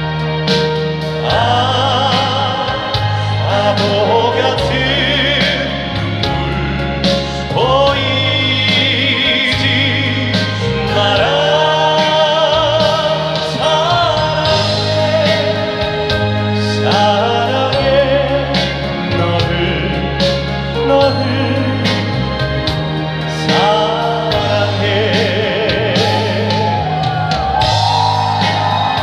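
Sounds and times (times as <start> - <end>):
live band playing pop ballad: 0.0 - 29.0
man singing with vibrato: 1.0 - 27.2.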